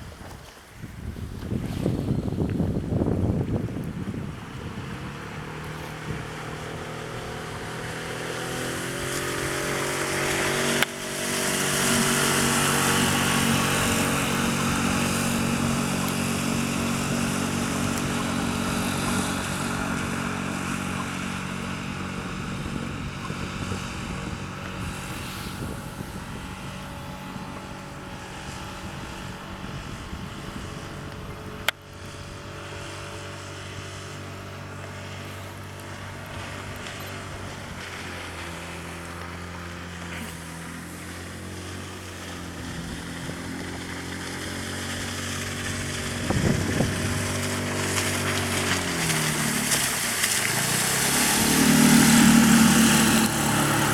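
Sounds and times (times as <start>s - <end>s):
outboard motor running: 0.0s - 53.9s
water and wind noise: 0.0s - 53.9s.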